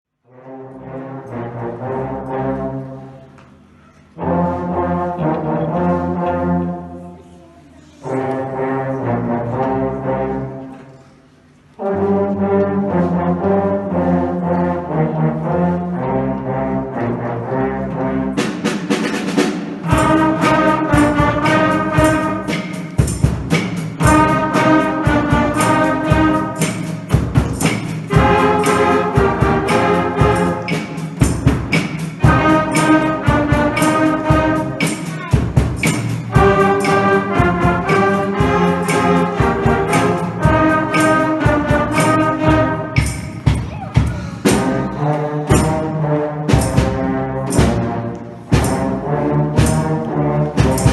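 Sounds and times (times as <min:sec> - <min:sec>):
wind band playing blues: 0:00.3 - 0:07.1, 0:08.0 - 0:10.9, 0:11.5 - 0:50.9.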